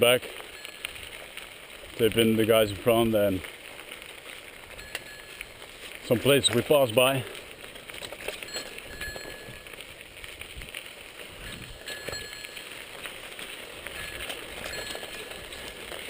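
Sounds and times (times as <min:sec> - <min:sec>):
bicycle rattling: 0:00.0 - 0:16.0
bicycle tyres on gravel: 0:00.0 - 0:16.0.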